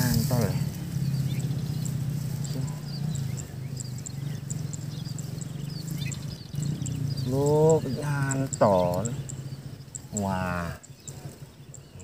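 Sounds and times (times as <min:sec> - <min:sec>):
low pulsing drone: 0:00.0 - 0:12.0.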